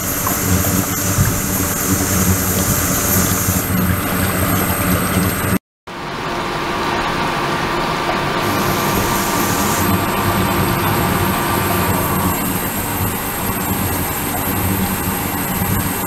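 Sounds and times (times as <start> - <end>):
water pouring from a hose: 0.0 - 5.6, 8.4 - 16.0
machine hum: 0.0 - 16.0.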